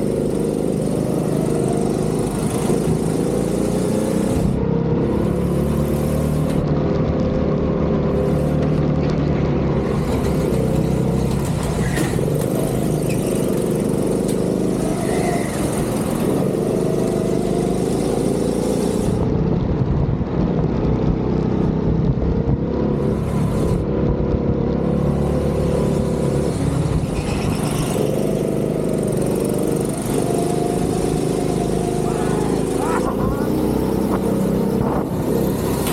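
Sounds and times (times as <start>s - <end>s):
go-kart engine revving: 0.0s - 19.6s, 20.2s - 35.9s.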